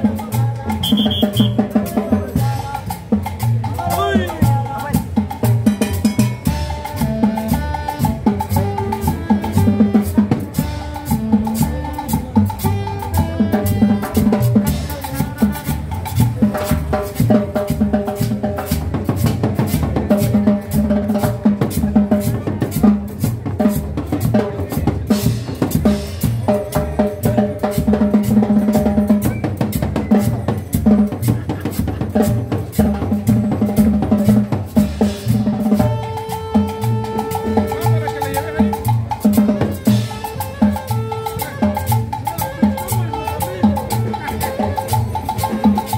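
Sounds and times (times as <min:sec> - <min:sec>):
latin dance music: 0:00.0 - 0:23.5, 0:24.1 - 0:45.9.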